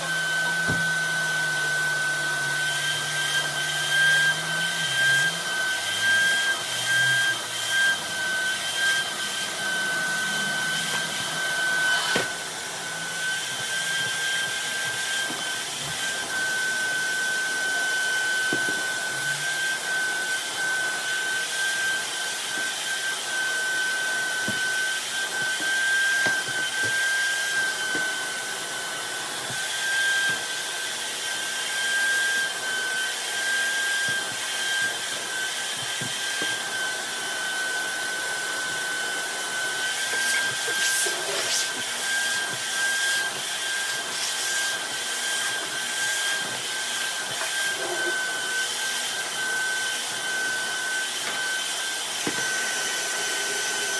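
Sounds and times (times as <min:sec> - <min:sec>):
vacuum cleaner motor whining: 0:00.0 - 0:53.9.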